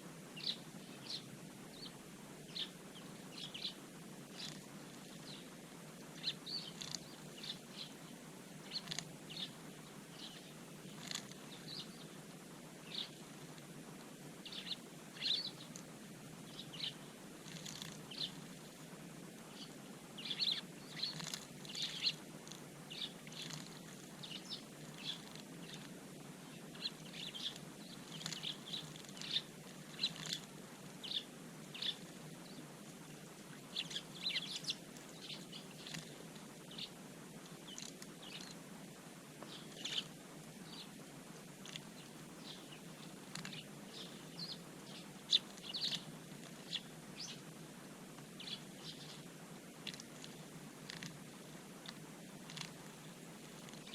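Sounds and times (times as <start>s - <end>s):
low background hum: 0.0s - 53.9s
birds chirping: 0.4s - 13.4s, 14.4s - 38.7s, 39.4s - 47.6s, 48.3s - 53.9s.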